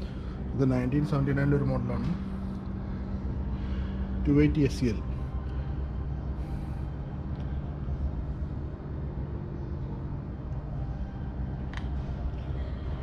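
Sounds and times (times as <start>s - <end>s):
low hum of indoor hall: 0.0s - 13.0s.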